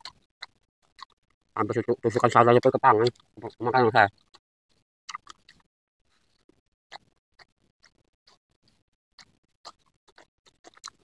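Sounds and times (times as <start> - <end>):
people chewing: 0.0 - 11.0.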